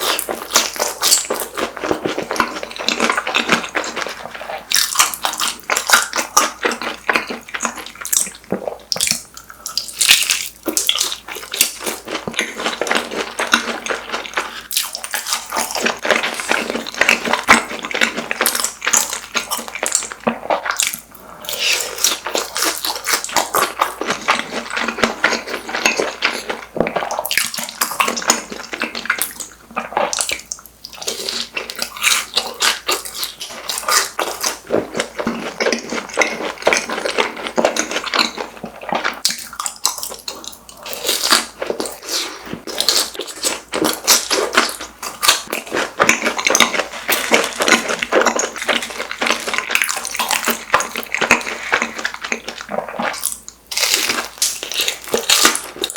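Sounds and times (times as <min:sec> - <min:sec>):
crunching and chewing snacks: 0:00.0 - 0:55.9.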